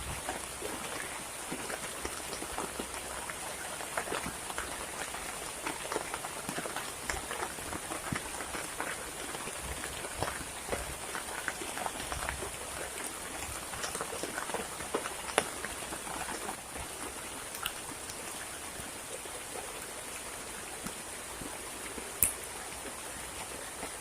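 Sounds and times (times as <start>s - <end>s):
heavy rain: 0.0s - 24.0s
raindrops striking close by: 0.0s - 24.0s.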